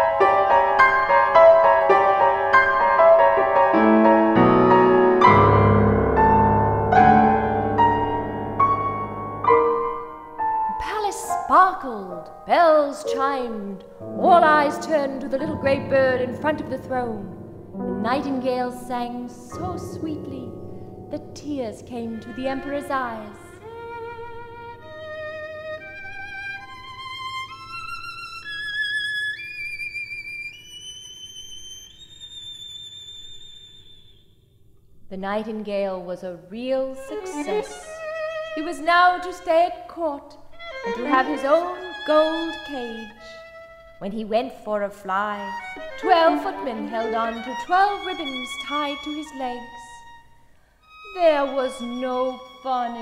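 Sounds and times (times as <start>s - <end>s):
classical piano playing: 0.0s - 33.9s, 36.8s - 50.4s, 51.0s - 53.0s.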